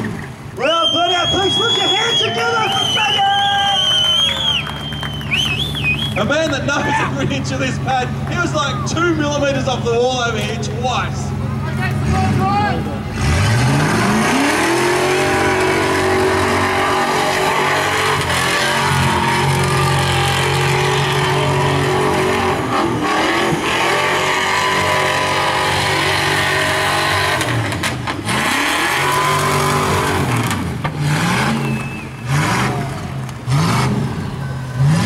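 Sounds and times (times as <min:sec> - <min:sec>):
car engine at high revs: 0:03.9 - 0:35.0.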